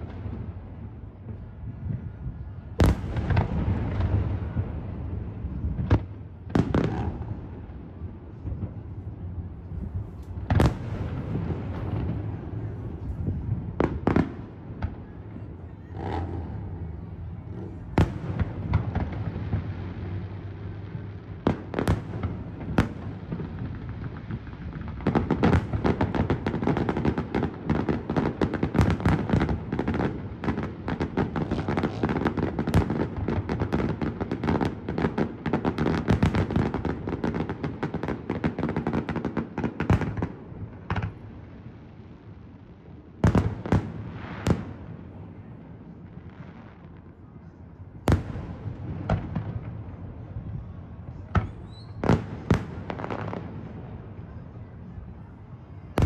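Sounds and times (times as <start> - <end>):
fireworks bangs and crackle: 0.0 - 56.0.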